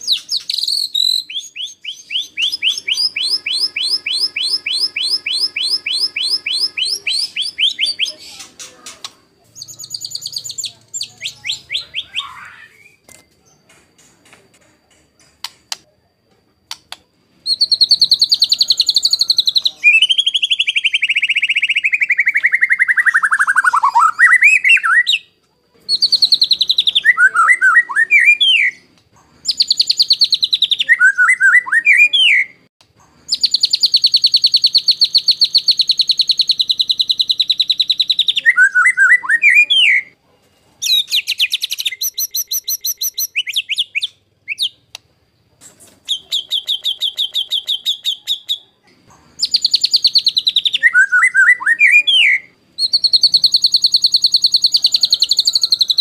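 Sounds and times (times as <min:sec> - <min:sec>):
songbird singing rattling trills: 0:00.0 - 0:15.8, 0:17.2 - 0:32.5, 0:33.1 - 0:40.2, 0:40.8 - 0:44.9, 0:46.0 - 0:56.0.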